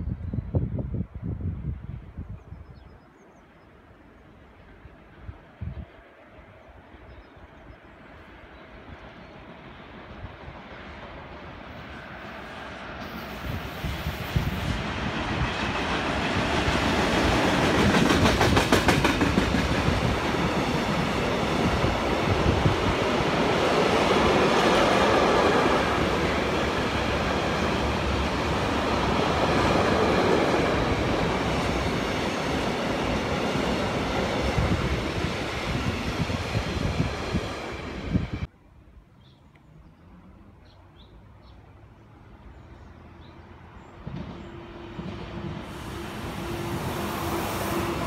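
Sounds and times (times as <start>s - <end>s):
freight train rumbling past: 4.0s - 38.5s, 41.7s - 48.0s.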